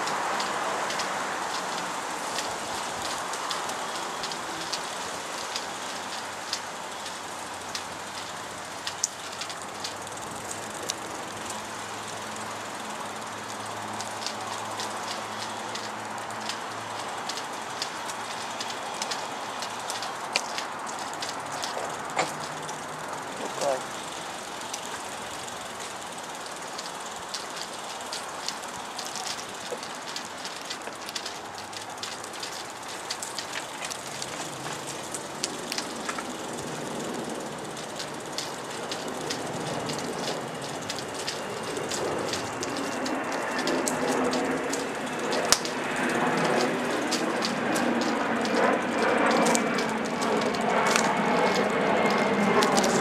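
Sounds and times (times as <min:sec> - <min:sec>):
small clicks and ticks: 0:00.0 - 0:53.0
wheels rolling over pavement: 0:00.0 - 0:53.0.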